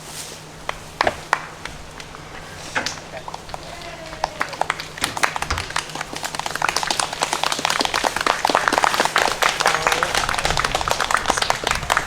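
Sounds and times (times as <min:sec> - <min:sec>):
crowd clapping: 0:00.7 - 0:02.2, 0:02.8 - 0:12.0.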